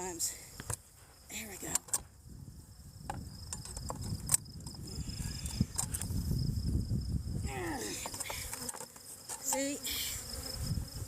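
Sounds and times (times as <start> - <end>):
faint insect trill: 0.0 - 11.0.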